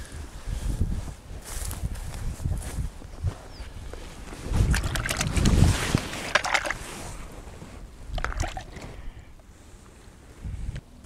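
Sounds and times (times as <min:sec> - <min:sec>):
wind buffeting microphone: 0:00.0 - 0:09.4, 0:10.3 - 0:10.8.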